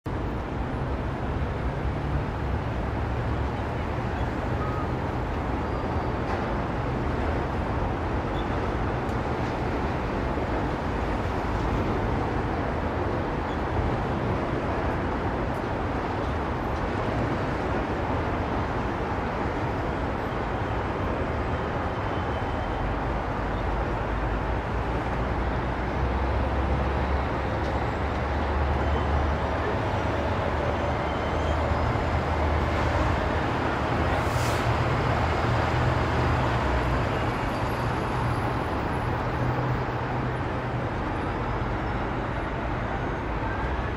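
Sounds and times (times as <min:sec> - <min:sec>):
city traffic: 0:00.0 - 0:43.9.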